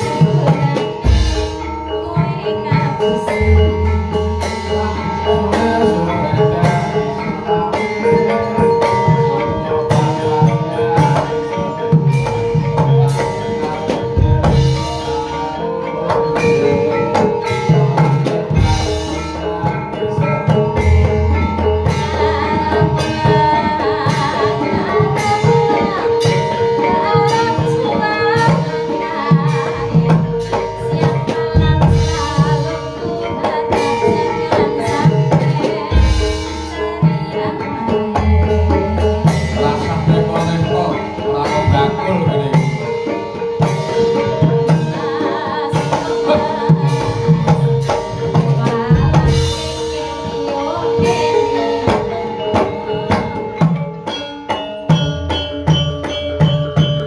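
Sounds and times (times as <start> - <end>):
hand drum beat: 0.0 - 57.0
ringing mallet percussion: 0.0 - 57.0.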